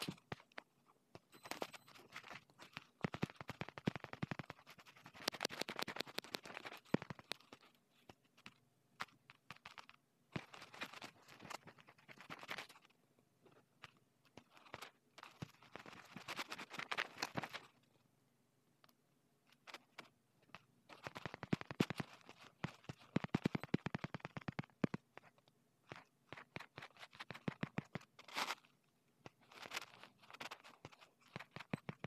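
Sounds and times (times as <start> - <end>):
scratching on a touchscreen: 0.0 - 18.0, 18.8 - 32.0.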